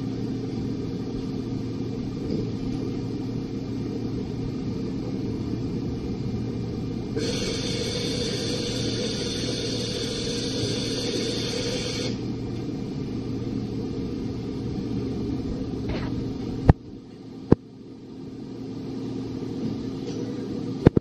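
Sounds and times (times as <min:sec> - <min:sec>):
boring mill mechanical hum: 0:00.0 - 0:21.0.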